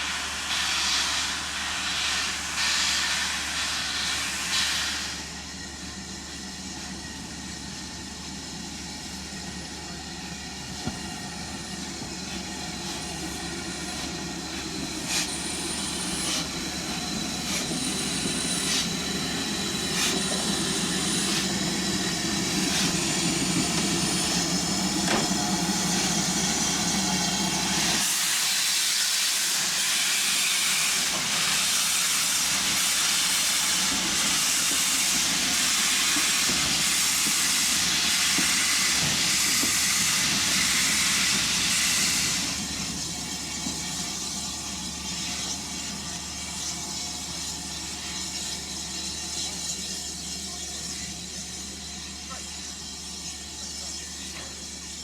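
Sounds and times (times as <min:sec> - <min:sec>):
steam hissing: 0:00.0 - 0:05.6, 0:10.2 - 0:55.0
steam locomotive working: 0:00.0 - 0:55.0.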